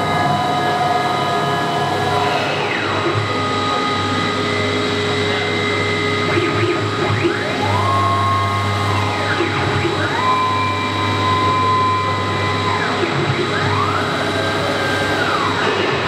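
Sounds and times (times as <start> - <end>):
motors whining in pitch glides: 0.0 - 16.0
steady high whine and hum: 0.0 - 16.0.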